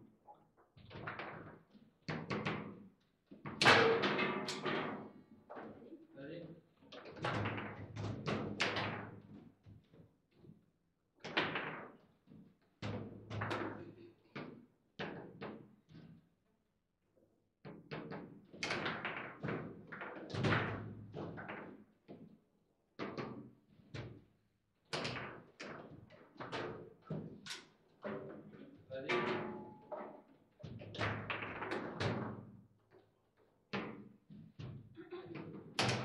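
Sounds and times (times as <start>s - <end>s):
table football knocks and clacks: 0.8s - 5.7s, 6.9s - 10.6s, 11.2s - 16.3s, 17.7s - 22.4s, 23.0s - 24.3s, 24.9s - 32.7s, 33.7s - 36.0s.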